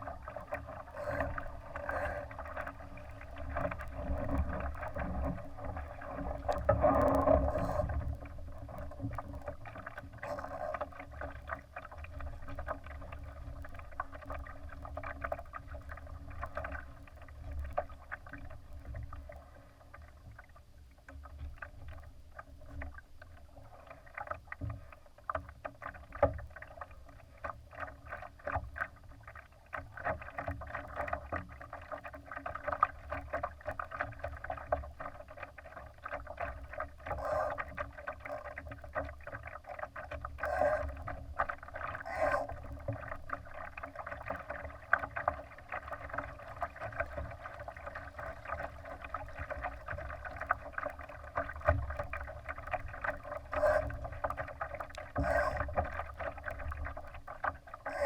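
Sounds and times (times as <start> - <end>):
water splashing against hull: 0.0 - 58.0.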